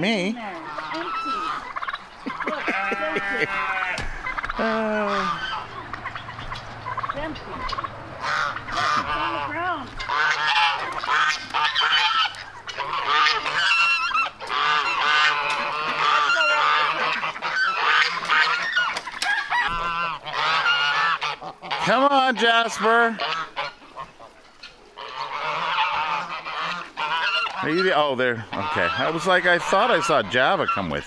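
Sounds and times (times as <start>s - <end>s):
geese honking: 0.0s - 31.0s.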